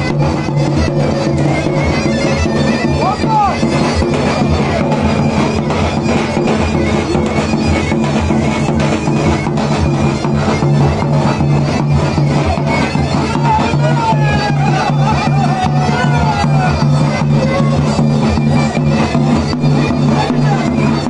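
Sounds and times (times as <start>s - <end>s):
shrill reedy pipe melody: 0.0s - 21.0s.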